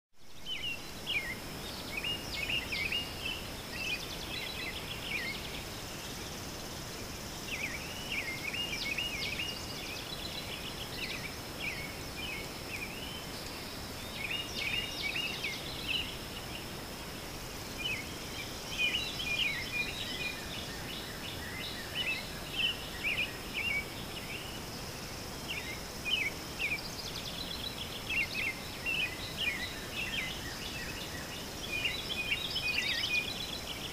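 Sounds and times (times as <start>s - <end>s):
background hiss: 0.2s - 33.9s
songbirds chirping: 0.2s - 33.9s.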